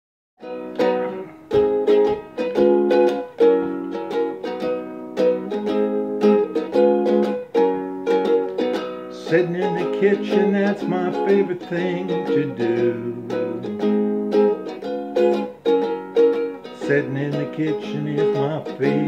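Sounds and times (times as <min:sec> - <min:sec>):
ukulele strumming chords: 0:00.4 - 0:19.0.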